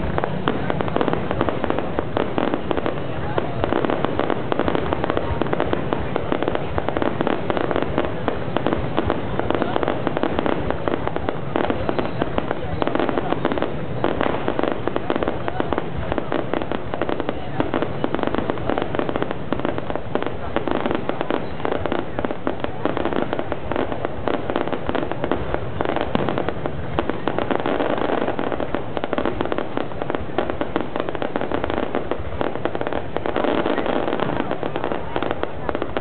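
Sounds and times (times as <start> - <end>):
fireworks crackling and banging: 0.0 - 36.0.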